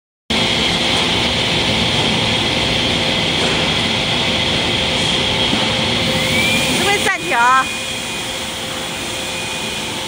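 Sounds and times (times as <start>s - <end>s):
faint steady machine hum: 0.3s - 10.0s
machine high whine: 0.3s - 10.0s.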